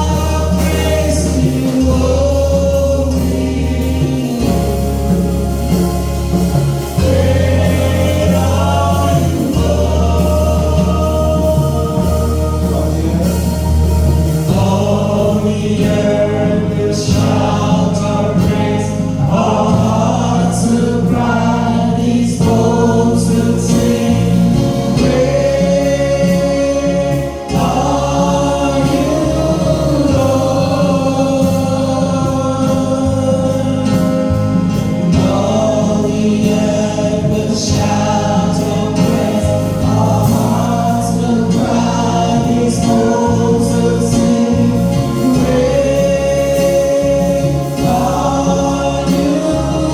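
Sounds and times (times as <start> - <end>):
choir singing a hymn: 0.0 - 49.9
instrumental accompaniment: 0.0 - 49.9.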